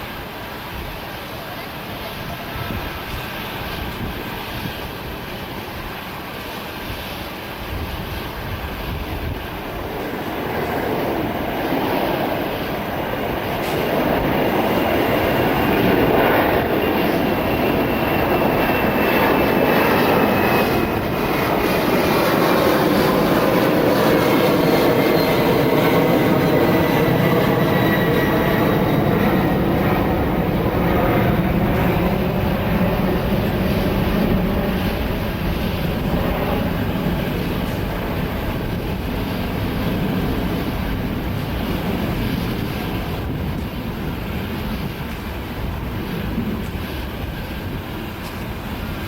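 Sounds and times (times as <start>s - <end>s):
jet airliner engines running: 0.0s - 49.0s.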